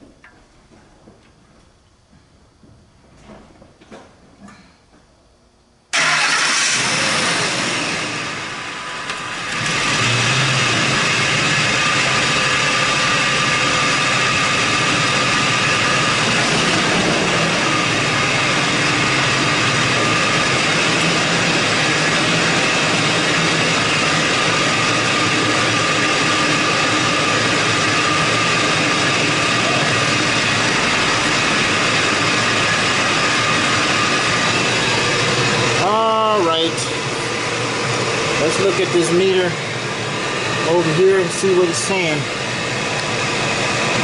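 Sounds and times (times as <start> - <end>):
truck engine starting and idling: 5.9 - 44.0.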